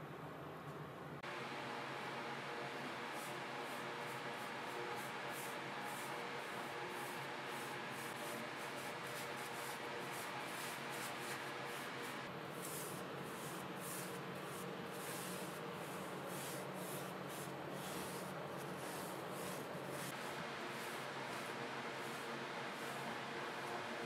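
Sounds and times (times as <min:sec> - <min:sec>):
paintbrush scraping on rough wood: 0:03.0 - 0:24.0.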